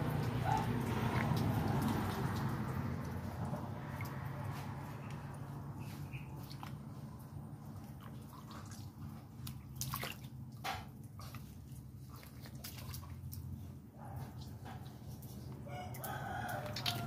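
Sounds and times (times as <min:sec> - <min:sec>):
water splashing in plastic basin: 0:00.0 - 0:13.6, 0:14.2 - 0:17.0.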